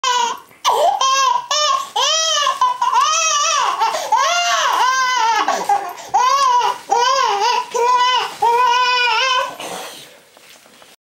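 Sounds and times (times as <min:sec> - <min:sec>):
baby crying: 0:00.0 - 0:09.6.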